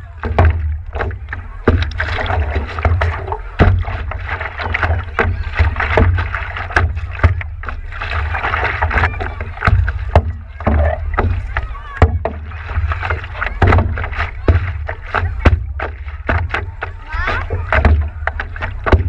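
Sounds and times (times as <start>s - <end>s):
paddle strokes in water: 0.0s - 19.0s
water slapping against paddleboard: 0.0s - 19.0s
sharp knocks: 0.2s - 19.0s.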